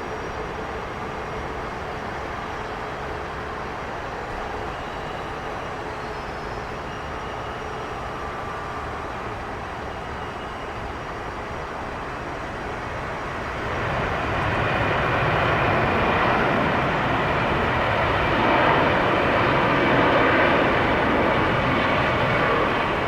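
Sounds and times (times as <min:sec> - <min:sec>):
jet airliner engines rushing: 0:00.1 - 0:23.0.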